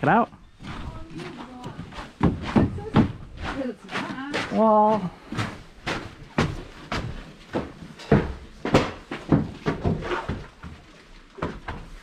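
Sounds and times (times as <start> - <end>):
hollow wooden knocks and clunks: 1.6 - 12.0.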